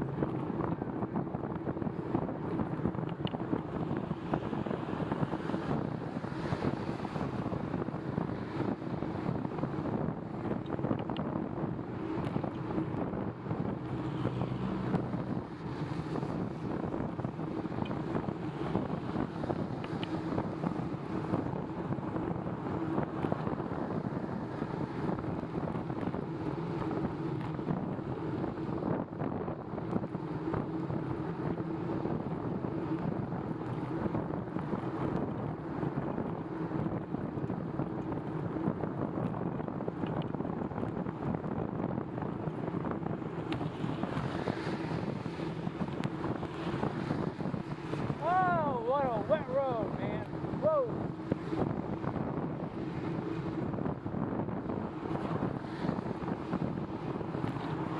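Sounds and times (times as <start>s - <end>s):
wind noise on microphone: 0.0s - 57.9s.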